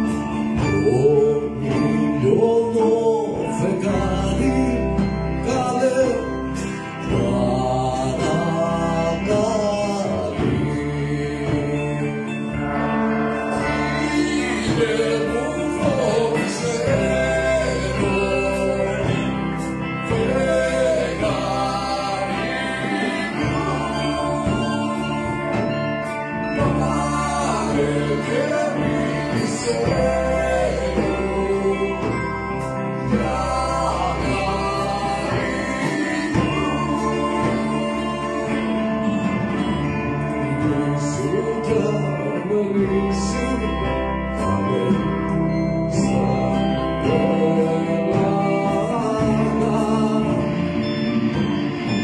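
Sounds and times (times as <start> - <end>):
live rock band: 0.0 - 52.0
man singing: 0.0 - 52.0.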